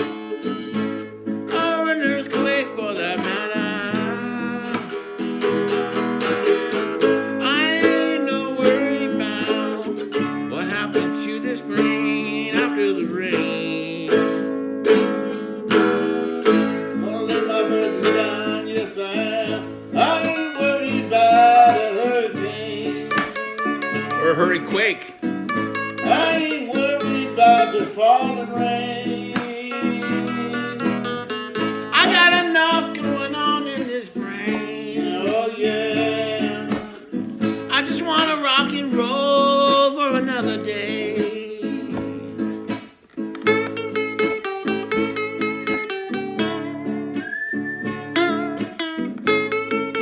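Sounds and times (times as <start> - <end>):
acoustic guitar strumming: 0.0 - 50.0
person singing: 1.5 - 15.1, 16.4 - 48.8.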